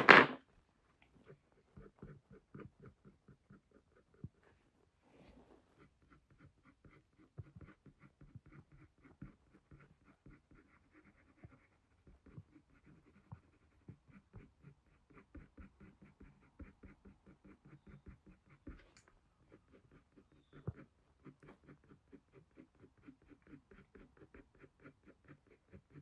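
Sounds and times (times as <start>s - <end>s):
pencil scratching on paper: 1.3s - 4.9s, 5.7s - 26.0s.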